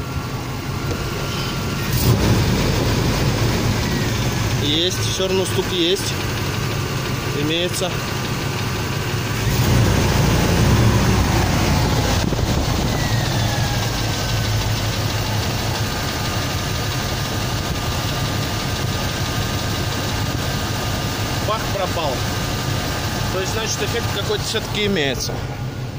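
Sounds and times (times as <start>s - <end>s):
engine idling with lifter tick: 0.0s - 9.7s, 13.6s - 25.4s.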